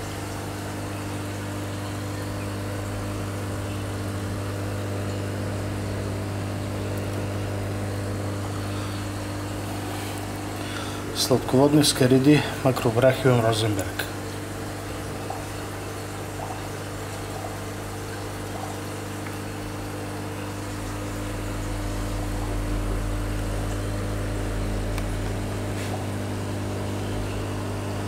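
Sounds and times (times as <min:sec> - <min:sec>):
moving water: 0:00.0 - 0:27.8
aquarium pump humming: 0:00.0 - 0:28.0.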